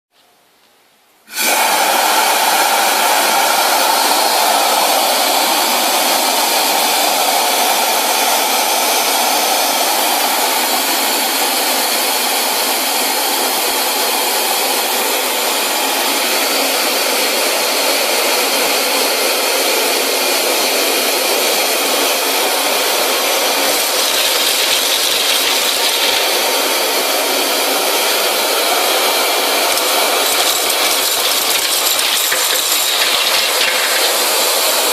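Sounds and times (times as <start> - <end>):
industrial vacuum cleaner hissing: 1.2 - 34.9.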